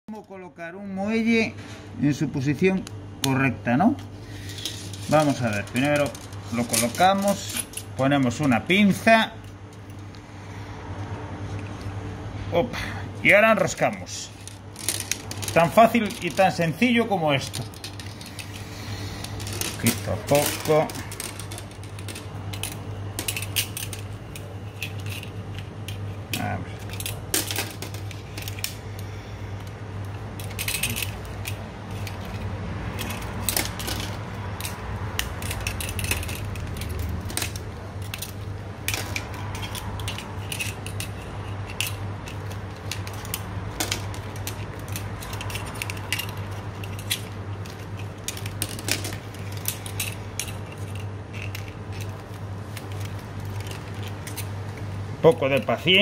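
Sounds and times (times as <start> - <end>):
steady low hum: 0.1 - 56.0
small metallic clicks and scrapes: 4.0 - 8.8, 13.8 - 28.8, 29.6 - 55.0.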